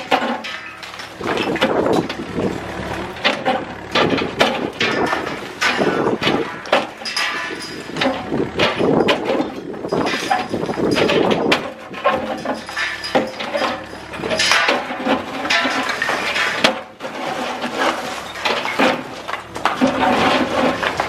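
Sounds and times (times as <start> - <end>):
excavator crunching concrete: 0.0 - 21.0.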